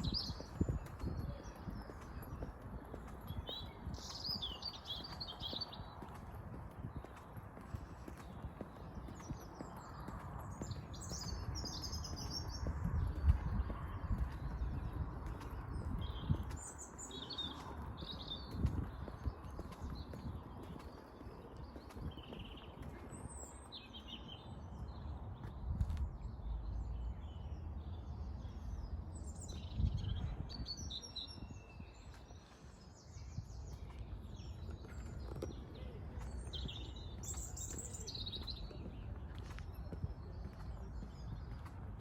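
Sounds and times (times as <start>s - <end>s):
songbirds chirping and trilling: 0.0s - 42.0s.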